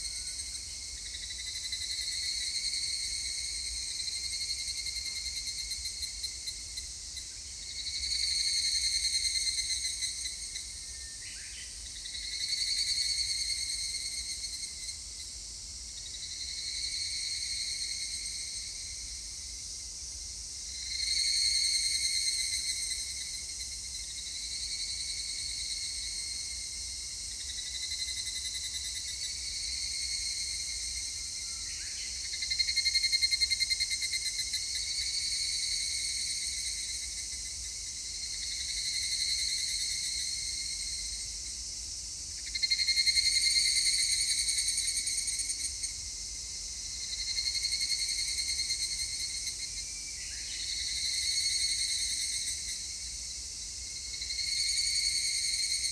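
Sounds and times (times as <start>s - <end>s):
cicadas trilling in chorus: 0.0s - 55.9s.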